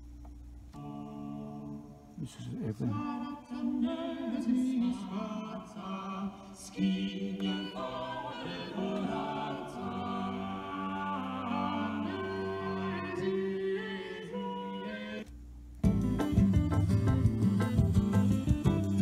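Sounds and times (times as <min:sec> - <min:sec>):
music with sustained singing: 0:00.7 - 0:19.0.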